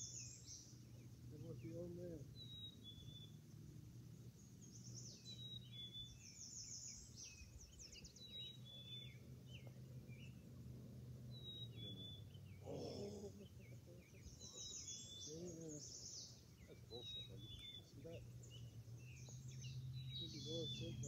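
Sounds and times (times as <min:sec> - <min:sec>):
faint birdsong whistles and trills: 0:00.0 - 0:21.0
low steady hum: 0:00.0 - 0:21.0.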